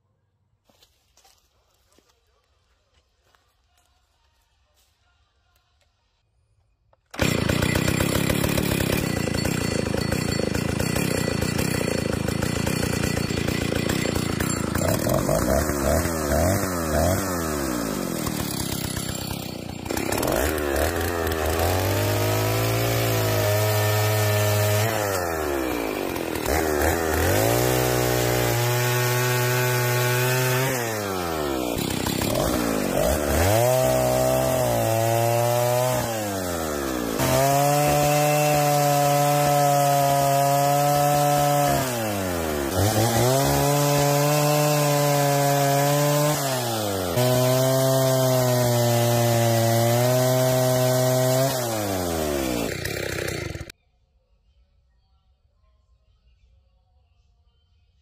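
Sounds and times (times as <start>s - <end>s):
chainsaw revving cutting log: 7.1s - 53.7s.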